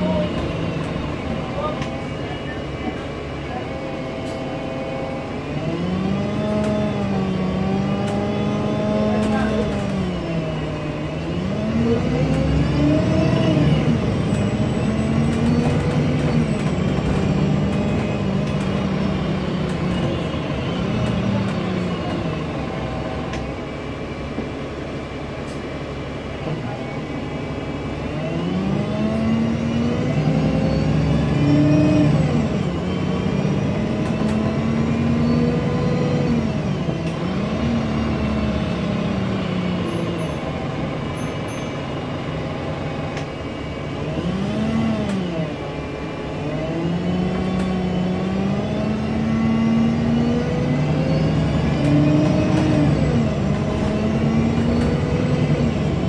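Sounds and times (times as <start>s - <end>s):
bus diesel engine accelerating: 0.0s - 56.0s
road rumble: 0.0s - 56.0s.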